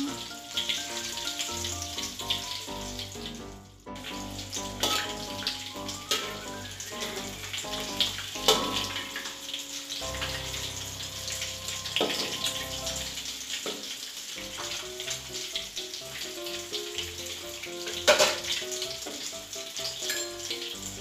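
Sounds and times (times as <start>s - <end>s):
background music: 0.0s - 13.6s, 14.4s - 21.0s
eggs sizzling in oil: 0.0s - 21.0s.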